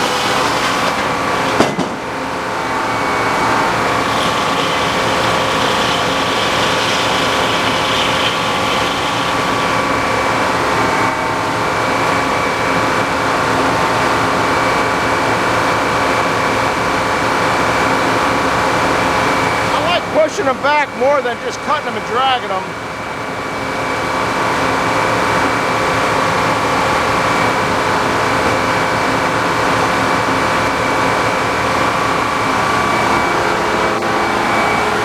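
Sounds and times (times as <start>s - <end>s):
sawmill machinery drone: 0.0s - 35.0s.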